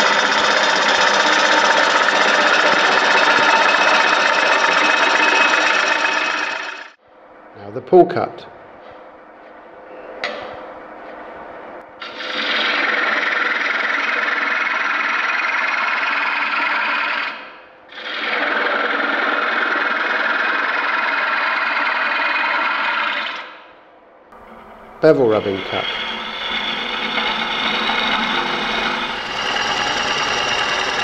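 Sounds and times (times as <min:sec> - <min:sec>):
gouge cutting wood on a lathe: 0:00.0 - 0:07.0, 0:12.0 - 0:23.5, 0:24.4 - 0:31.0.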